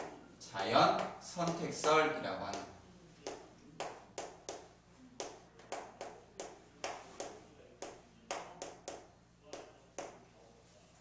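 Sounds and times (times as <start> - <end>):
chalk tapping on a chalkboard: 0.9 - 10.2.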